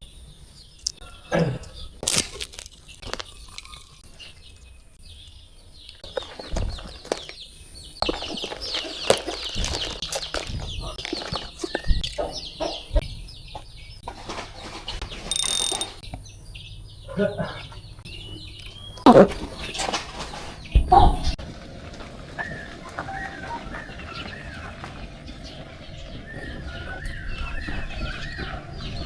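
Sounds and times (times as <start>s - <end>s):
birds chirping and clucking: 0.0s - 29.0s.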